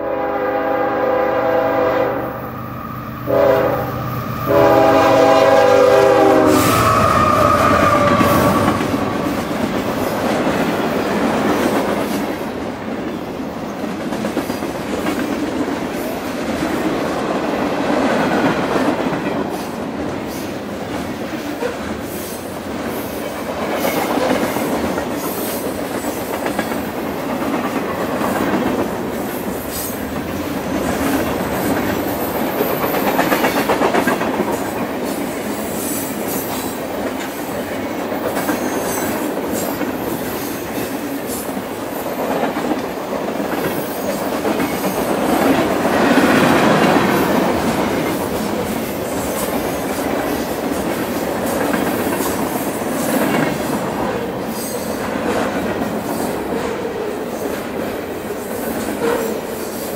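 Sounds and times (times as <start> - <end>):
freight train rumbling: 0.0 - 59.9.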